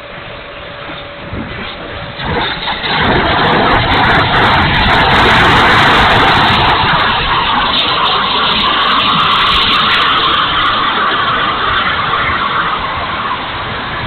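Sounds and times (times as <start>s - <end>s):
electric ducted fan rushing: 0.0s - 14.0s
wind buffeting microphone: 0.0s - 14.0s.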